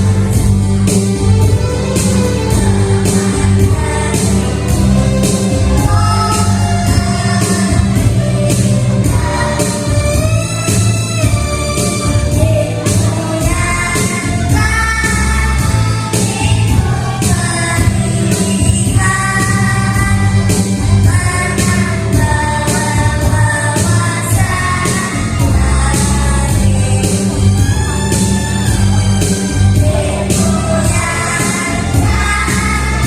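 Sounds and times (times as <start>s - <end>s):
children's choir singing: 0.0s - 33.0s
musical accompaniment with beat: 0.0s - 33.0s.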